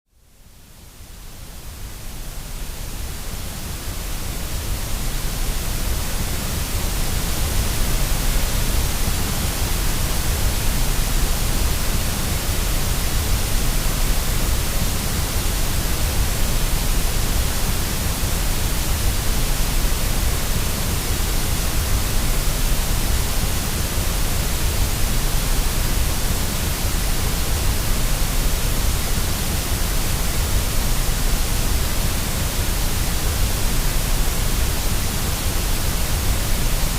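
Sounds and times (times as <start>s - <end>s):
white noise hiss: 0.1s - 36.9s.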